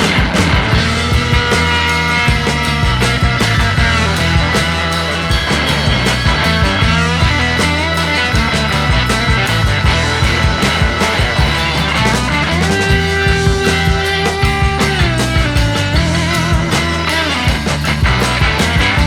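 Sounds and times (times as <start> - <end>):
upbeat rock music: 0.0 - 19.0.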